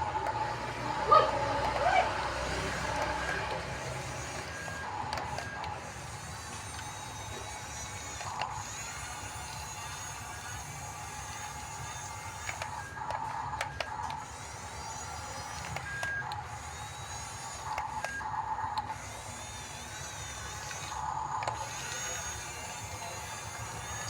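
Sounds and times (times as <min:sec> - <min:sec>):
small electric motors whirring: 0:00.0 - 0:24.0.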